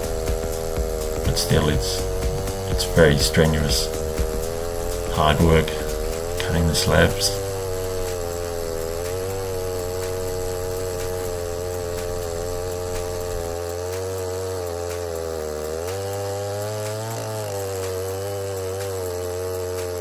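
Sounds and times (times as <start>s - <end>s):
chainsaw cutting log: 0.0s - 20.0s.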